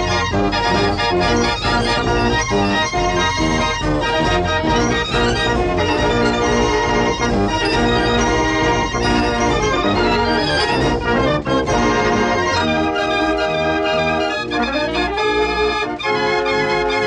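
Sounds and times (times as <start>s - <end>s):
organ music in held chords: 0.0s - 17.0s.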